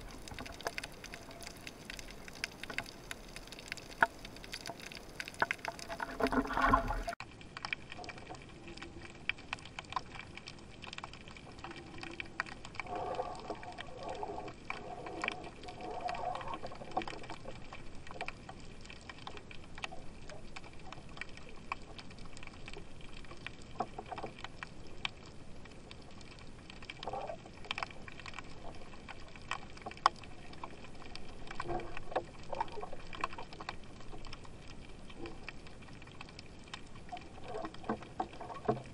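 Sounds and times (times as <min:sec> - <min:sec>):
sharp underwater clicks and crackles: 0:00.0 - 0:38.9
underwater water noise: 0:00.0 - 0:38.9.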